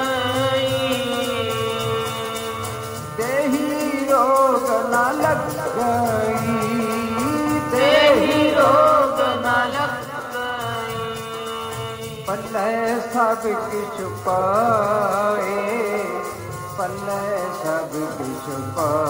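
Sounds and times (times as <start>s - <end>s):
steady held drone: 0.0s - 18.8s
person singing ornamented phrases: 0.0s - 19.0s.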